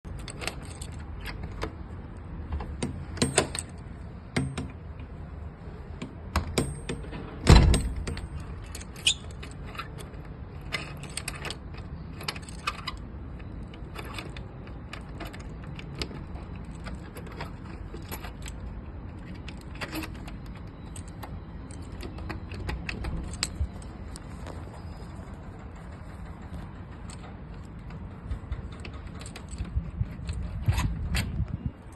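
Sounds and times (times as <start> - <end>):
door lock clicking and rattling: 0.0 - 31.9.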